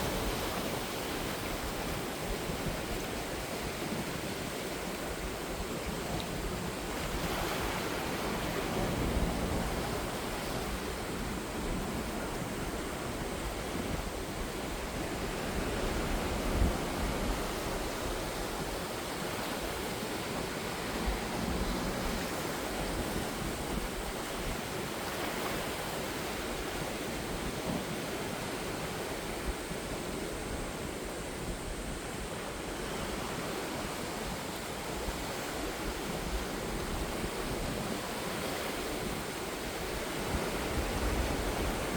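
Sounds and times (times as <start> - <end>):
sea waves washing in: 0.0 - 41.9.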